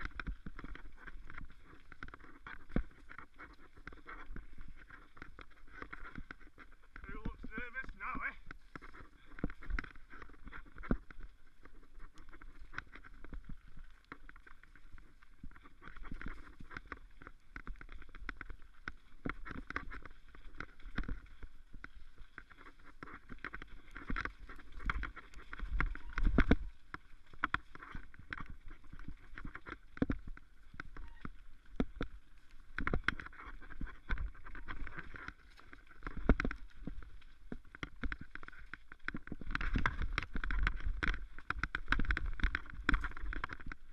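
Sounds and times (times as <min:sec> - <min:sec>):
bike tyre rumble and rattling: 0:00.0 - 0:43.9.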